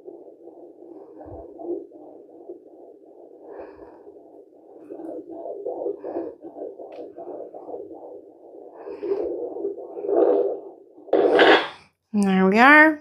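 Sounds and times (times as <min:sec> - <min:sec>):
fetal heartbeat pulsing: 0:00.0 - 0:11.7.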